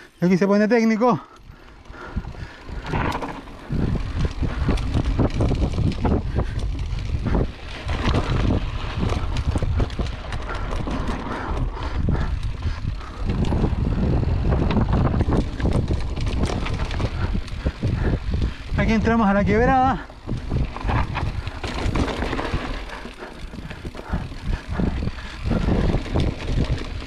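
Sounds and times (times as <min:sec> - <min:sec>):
bike rattling over rough ground: 0:00.1 - 0:27.0
wind buffeting microphone: 0:01.3 - 0:27.0.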